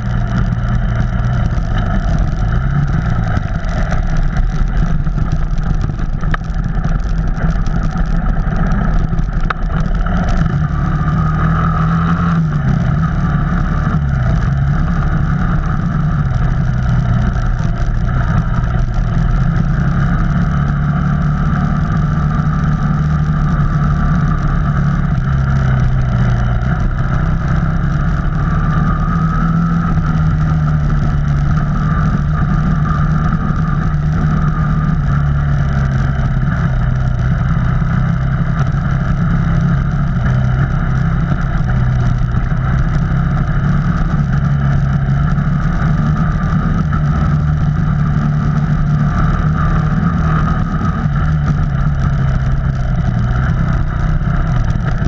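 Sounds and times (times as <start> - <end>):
off-road vehicle engine running: 0.0 - 55.0.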